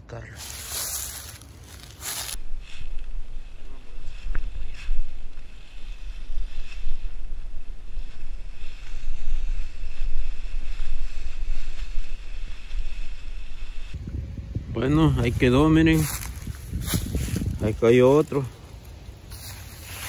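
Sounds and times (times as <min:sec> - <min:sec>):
carcass dragged over dry leaves: 0:00.2 - 0:14.0, 0:14.8 - 0:20.0
wind rumbling on microphone: 0:00.4 - 0:20.0.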